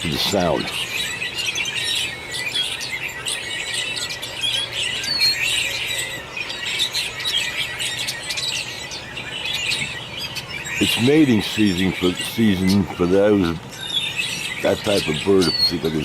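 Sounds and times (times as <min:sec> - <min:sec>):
chorus of birds chirping: 0:00.0 - 0:16.0.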